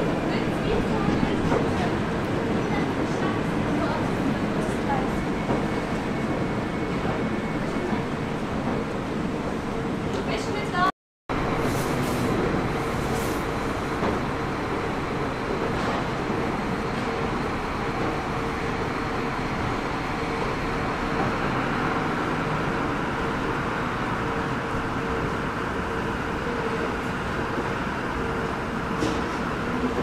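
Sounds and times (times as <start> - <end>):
train running: 0.0 - 30.0.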